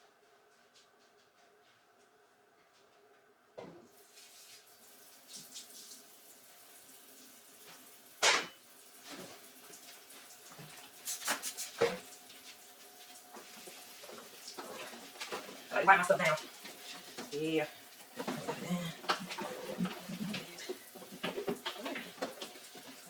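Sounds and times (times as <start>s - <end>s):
tap water running into sink: 4.0s - 23.0s.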